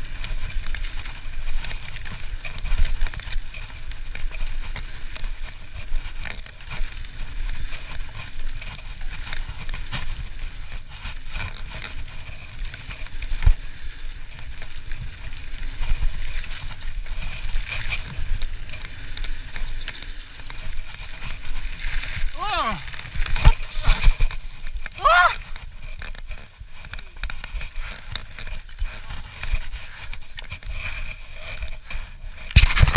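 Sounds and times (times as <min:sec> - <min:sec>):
wind on microphone: 0:00.0 - 0:32.9.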